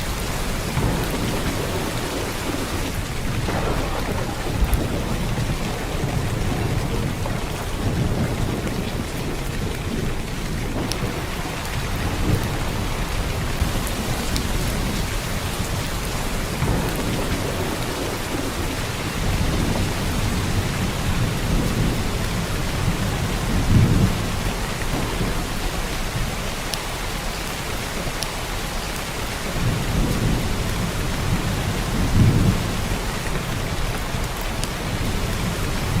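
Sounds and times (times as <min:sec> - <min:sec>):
heavy rain downpour: 0:00.0 - 0:36.0.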